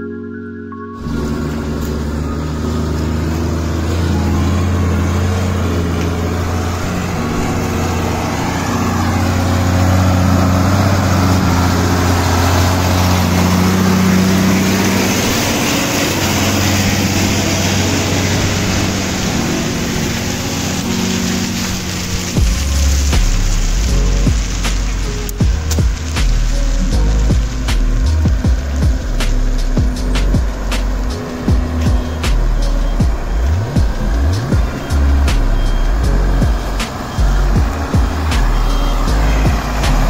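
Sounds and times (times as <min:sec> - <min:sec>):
diesel truck driving by: 0:00.0 - 0:40.0.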